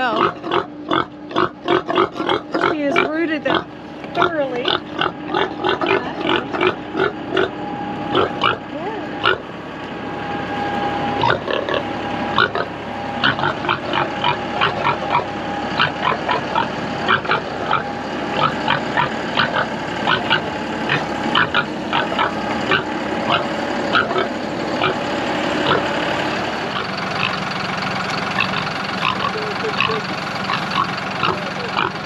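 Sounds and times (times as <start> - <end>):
pig grunting and snuffling: 0.0 - 9.4, 11.2 - 27.4, 28.4 - 32.0
steady engine hum: 0.0 - 32.0.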